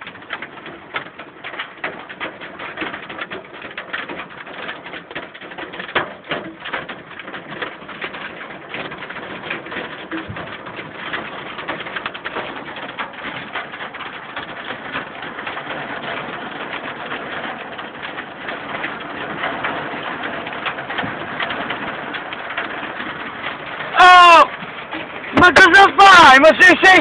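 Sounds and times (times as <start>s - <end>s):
hail and heavy rain pelting: 0.0s - 27.0s.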